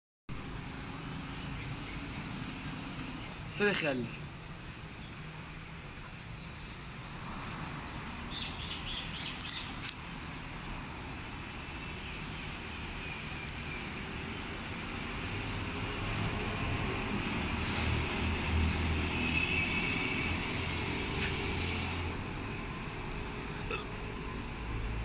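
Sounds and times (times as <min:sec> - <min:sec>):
road traffic rumble: 0:00.3 - 0:25.0.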